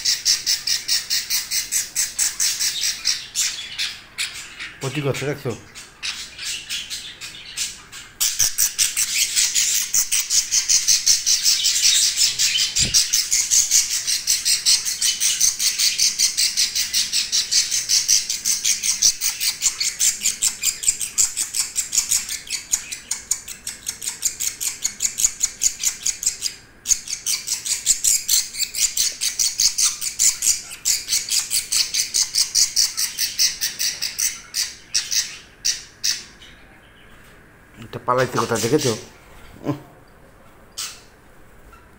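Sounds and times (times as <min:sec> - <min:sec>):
budgerigar chicks calling: 0:00.0 - 0:37.1, 0:37.9 - 0:39.2.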